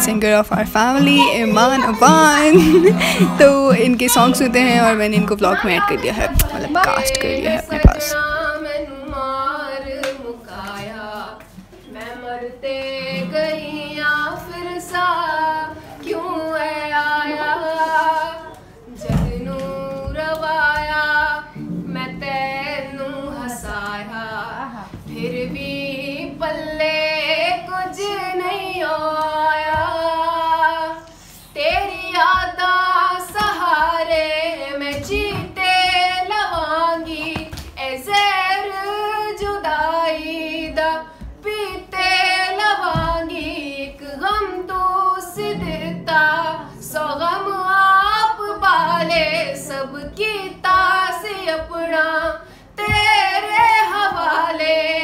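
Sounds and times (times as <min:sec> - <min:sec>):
acoustic guitar: 0:00.0 - 0:55.0
woman singing with vibrato: 0:00.0 - 0:55.0.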